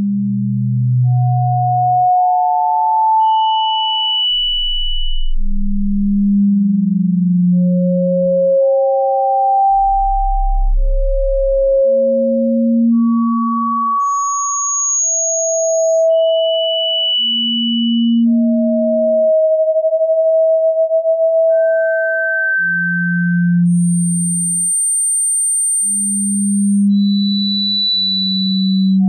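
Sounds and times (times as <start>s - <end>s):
pure sine tones: 0.0s - 29.0s.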